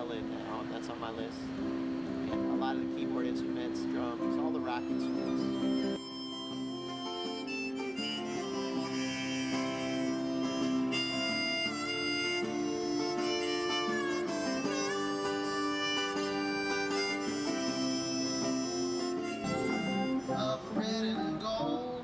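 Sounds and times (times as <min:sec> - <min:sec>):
harmonica: 0:00.0 - 0:22.0
strummed acoustic guitar: 0:00.0 - 0:22.0.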